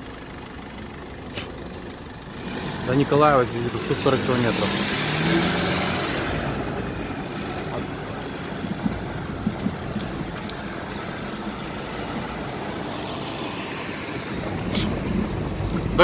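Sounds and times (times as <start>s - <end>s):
car engine and tyre noise: 0.0s - 16.0s
minibus driving alongside: 0.0s - 16.0s.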